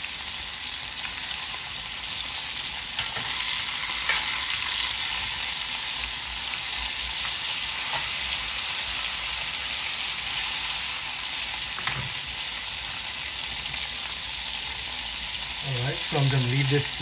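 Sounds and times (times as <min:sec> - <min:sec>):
steaks sizzling in a pan: 0:00.0 - 0:17.0.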